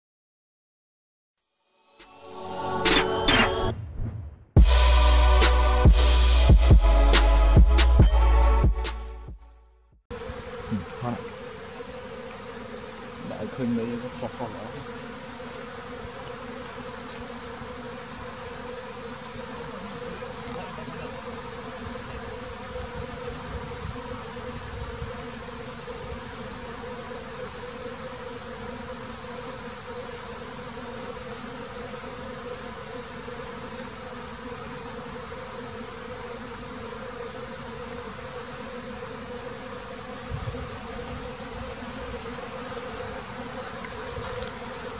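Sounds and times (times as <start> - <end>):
honeybees buzzing: 2.0 - 3.3, 4.6 - 9.3, 10.1 - 44.9.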